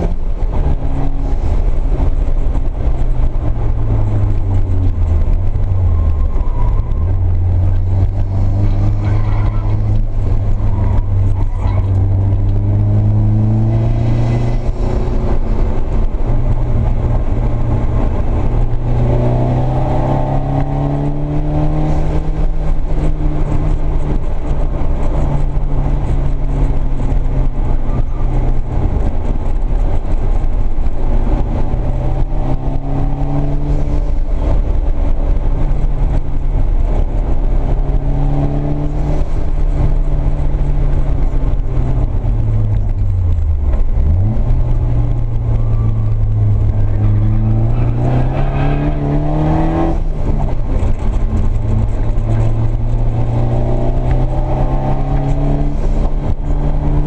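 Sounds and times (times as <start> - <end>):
turbocharged car engine revving: 0.0 - 57.0.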